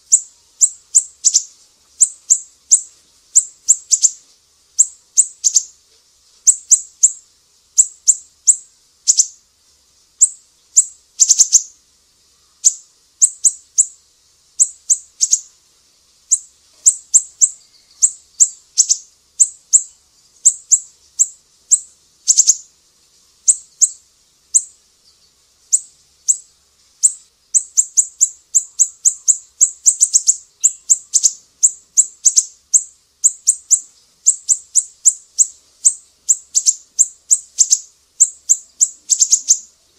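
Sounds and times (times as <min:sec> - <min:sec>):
songbird chirps: 0:00.0 - 0:39.9.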